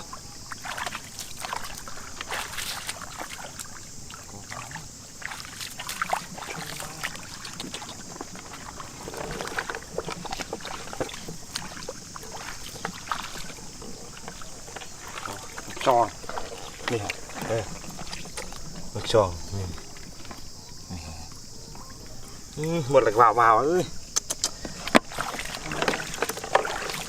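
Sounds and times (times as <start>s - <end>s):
steady high-pitched hiss: 0.0s - 27.0s
water splashing and sloshing: 0.0s - 27.0s.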